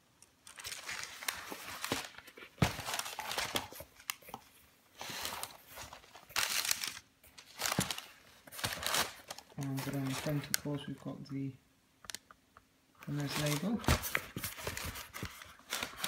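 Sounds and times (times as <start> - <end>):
wrapping rustling and crinkling: 0.2 - 11.0, 13.0 - 16.0.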